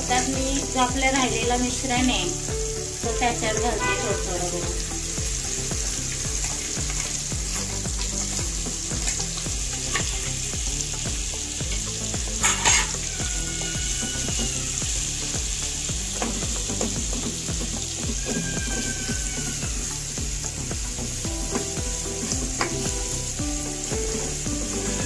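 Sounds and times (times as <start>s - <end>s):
food sizzling in hot oil: 0.0s - 25.0s
spatula stirring: 3.6s - 25.0s.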